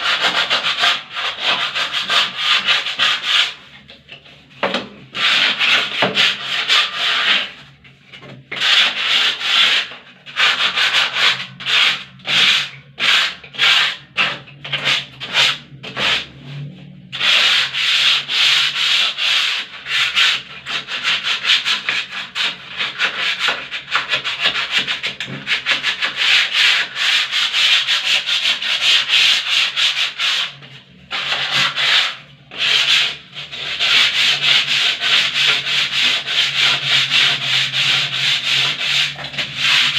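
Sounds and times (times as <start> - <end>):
sandpaper scraping a wall: 0.0 - 7.7, 8.5 - 39.9.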